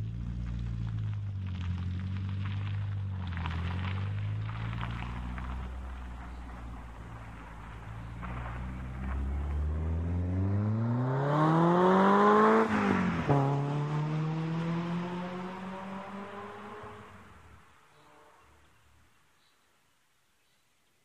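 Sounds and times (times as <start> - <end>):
car engine accelerating hard: 0.0 - 18.4.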